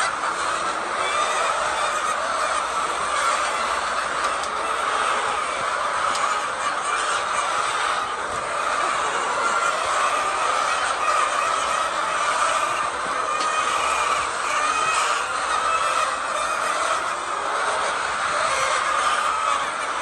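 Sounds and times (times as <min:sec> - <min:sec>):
chicken flock clucking: 0:00.0 - 0:20.0.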